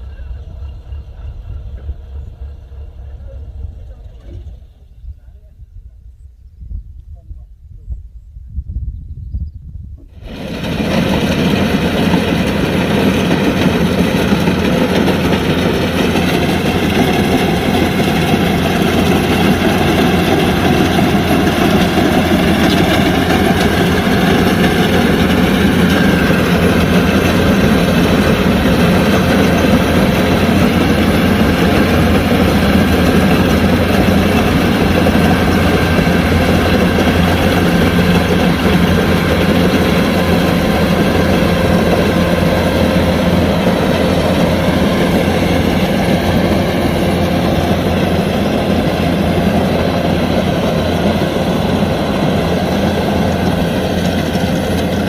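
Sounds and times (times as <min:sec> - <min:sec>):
combine harvester diesel engine: 0:00.0 - 0:06.0, 0:10.0 - 0:55.0.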